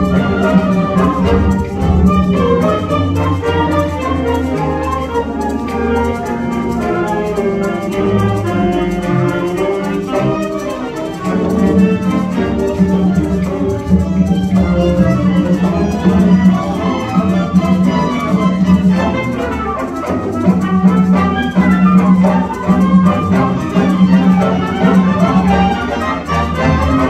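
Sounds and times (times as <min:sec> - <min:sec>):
held low note: 0:00.0 - 0:05.0, 0:09.7 - 0:27.0
orchestra strings playing: 0:00.0 - 0:27.0.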